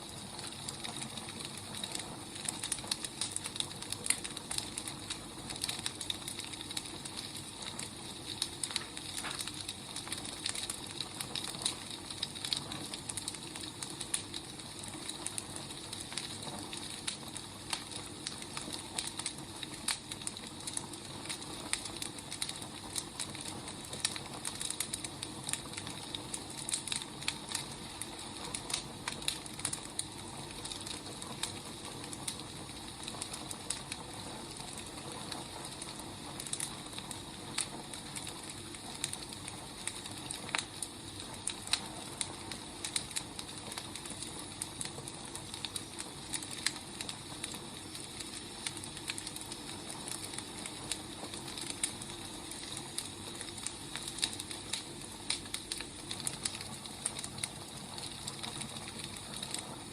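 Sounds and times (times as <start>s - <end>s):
firewood crackling and hissing: 0.0s - 59.9s.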